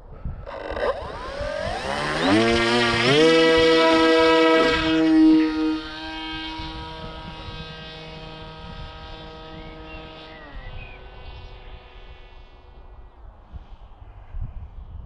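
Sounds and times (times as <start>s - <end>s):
electric motor propeller whine: 0.0s - 14.1s.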